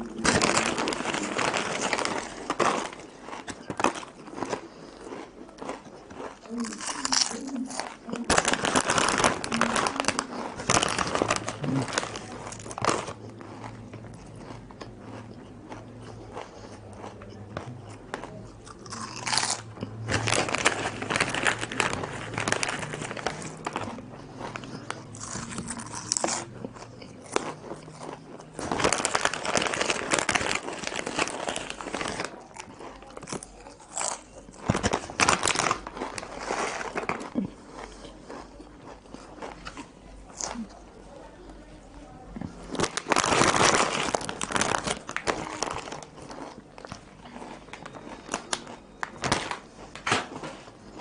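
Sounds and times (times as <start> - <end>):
chips crunching while chewed: 0.0 - 40.8, 42.4 - 51.0.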